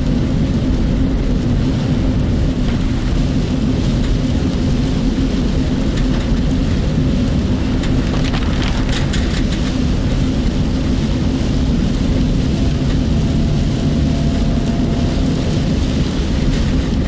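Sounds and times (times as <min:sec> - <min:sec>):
car driving rumble: 0:00.0 - 0:17.0
heavy rain and wind: 0:00.0 - 0:17.0.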